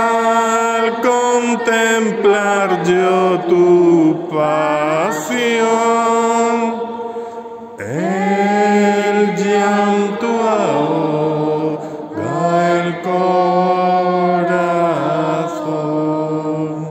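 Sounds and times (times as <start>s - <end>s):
man singing long notes: 0.0s - 6.9s, 7.8s - 16.9s.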